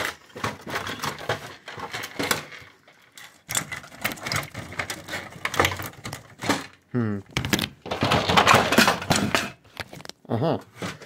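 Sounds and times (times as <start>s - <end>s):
plastic parts prying apart: 0.0s - 11.0s.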